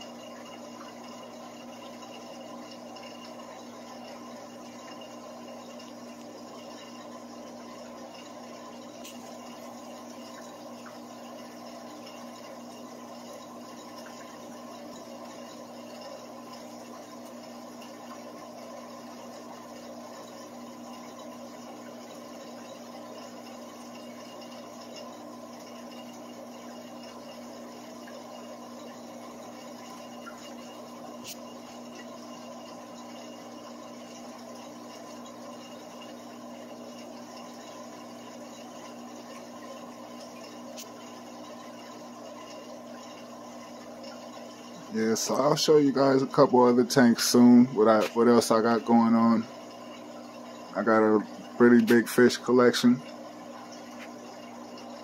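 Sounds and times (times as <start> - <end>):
aquarium filter pump humming: 0.0 - 55.0
moving water: 0.0 - 55.0.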